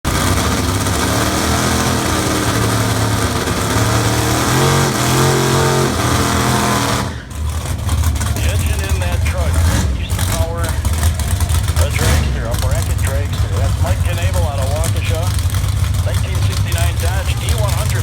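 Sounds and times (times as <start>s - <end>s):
truck engine idling and revving: 0.0s - 18.0s.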